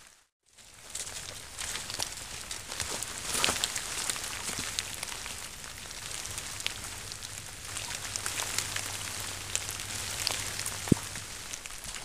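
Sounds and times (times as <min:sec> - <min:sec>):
light rain falling: 0:00.0 - 0:12.0
raindrops ticking: 0:00.9 - 0:12.0.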